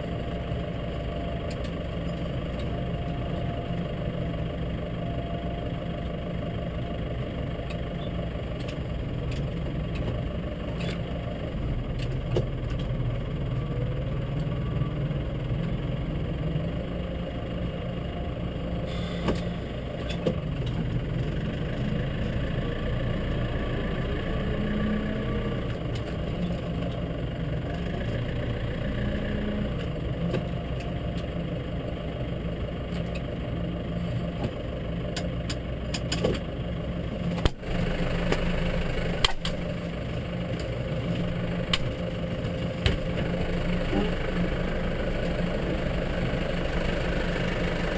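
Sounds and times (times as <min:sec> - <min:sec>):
small vehicle engine running: 0:00.0 - 0:47.9.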